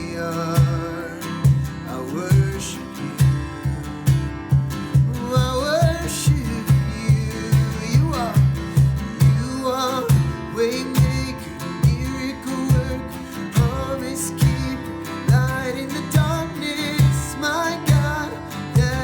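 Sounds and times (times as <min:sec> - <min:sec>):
worship band guitar music: 0:00.0 - 0:19.0.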